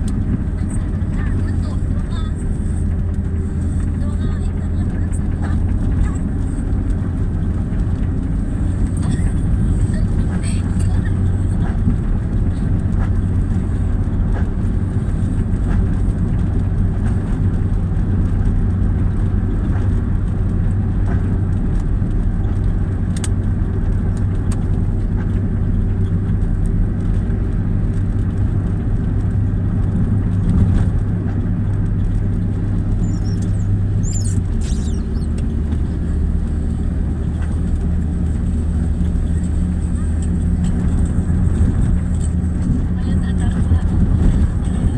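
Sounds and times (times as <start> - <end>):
engine running low drone: 0.0 - 44.9.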